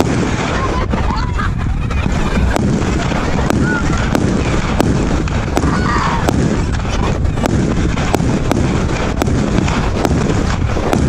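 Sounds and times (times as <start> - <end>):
firework cake shots: 0.0 - 11.0
low rumble: 0.0 - 11.0.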